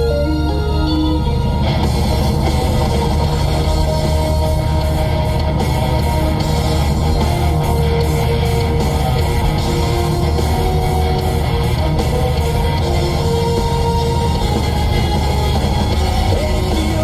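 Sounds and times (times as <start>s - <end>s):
heavy metal music with electric guitar: 0.0s - 17.0s.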